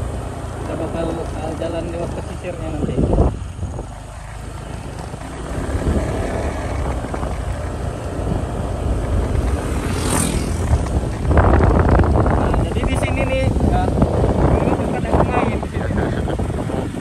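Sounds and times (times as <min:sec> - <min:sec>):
motorcycle engine running: 0:00.0 - 0:17.0
wind on microphone: 0:02.5 - 0:17.0.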